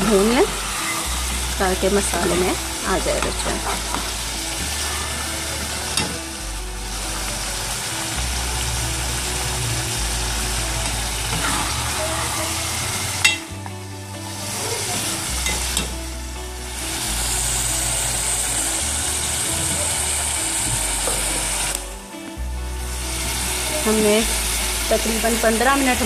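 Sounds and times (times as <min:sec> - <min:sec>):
food sizzling in hot oil: 0:00.0 - 0:13.6, 0:14.2 - 0:21.8, 0:22.8 - 0:26.0.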